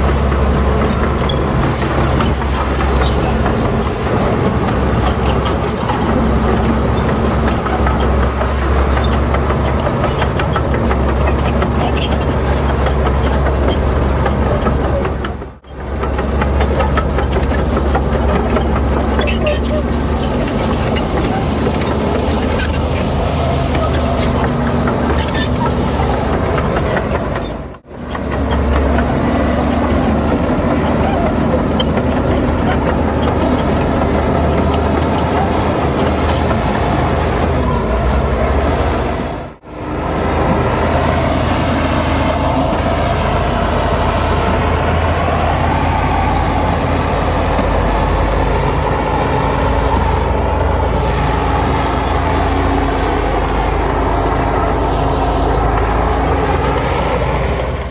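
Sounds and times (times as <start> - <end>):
clanking and rattling: 0.0 - 57.9
diesel engine droning: 0.0 - 57.9.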